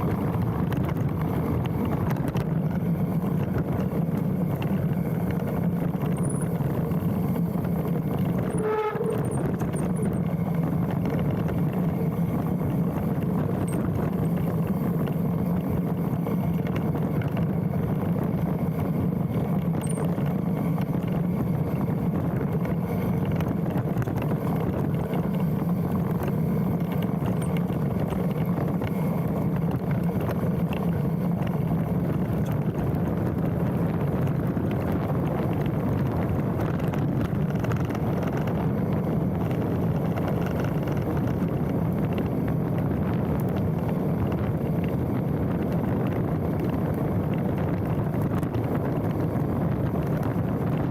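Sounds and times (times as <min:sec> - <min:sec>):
bike tyres rumbling on trail: 0:00.0 - 0:50.9.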